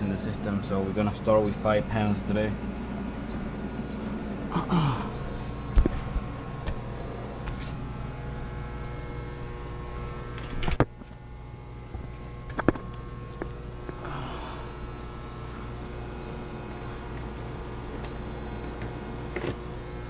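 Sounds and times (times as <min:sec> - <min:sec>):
refrigeration machinery hum: 0:00.0 - 0:20.0.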